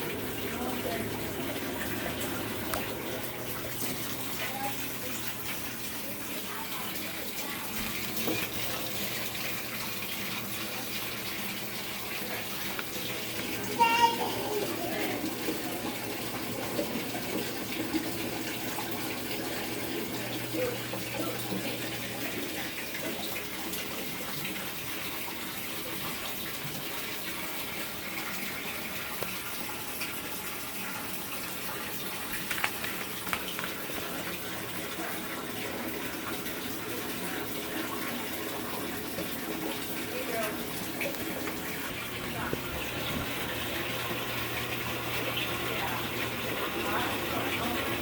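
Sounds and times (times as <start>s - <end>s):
water running into washing machine: 0.0s - 48.0s.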